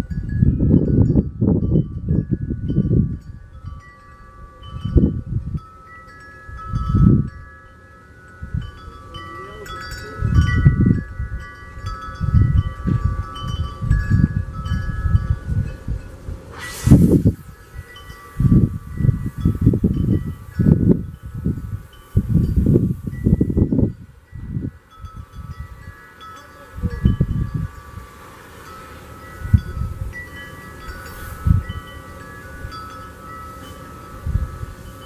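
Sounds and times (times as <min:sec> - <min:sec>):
wind buffeting microphone: 0:00.0 - 0:35.0
wind chimes ringing: 0:00.0 - 0:35.0.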